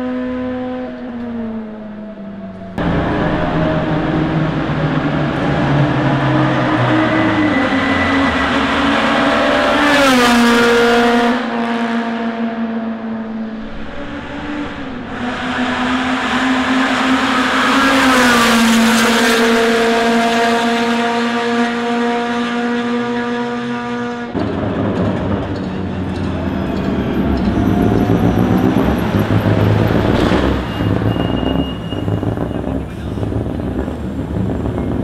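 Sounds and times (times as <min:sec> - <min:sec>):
race cars passing at speed: 0:00.0 - 0:35.0.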